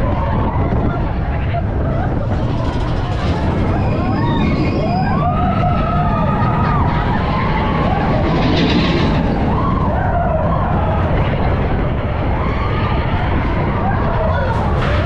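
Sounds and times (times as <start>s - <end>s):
riders whooping and screaming: 0.0s - 15.0s
roller coaster rumbling on track: 0.0s - 15.0s
wind buffeting camera: 0.0s - 15.0s.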